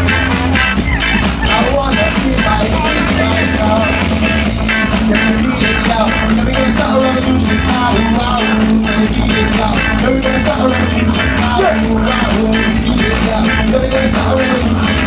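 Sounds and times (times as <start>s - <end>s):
live band playing dub rock: 0.0s - 15.0s
person singing: 0.0s - 15.0s.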